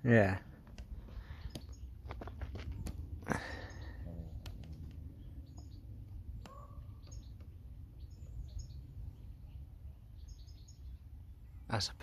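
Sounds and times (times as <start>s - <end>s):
steady low rumble: 0.0s - 11.6s
small birds chirping: 0.0s - 12.0s.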